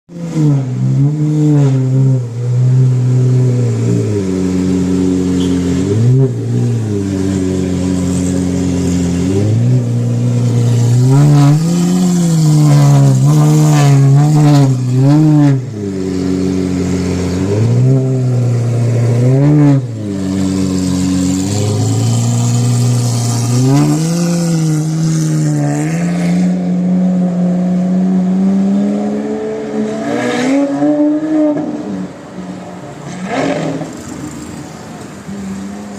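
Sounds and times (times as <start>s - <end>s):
sports car engine revving: 0.1s - 35.2s.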